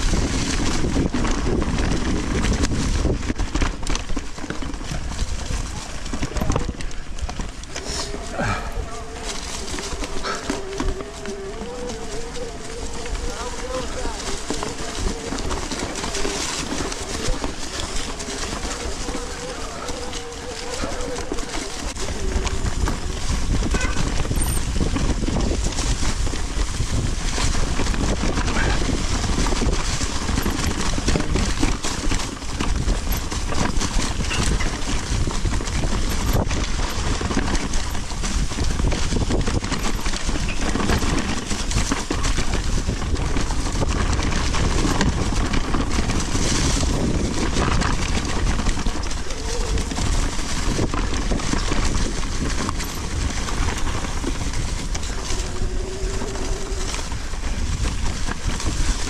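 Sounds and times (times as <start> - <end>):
bike rattling: 0.0 - 59.0
bike tyres rolling on dirt: 0.0 - 59.0
wind on microphone: 0.0 - 59.0.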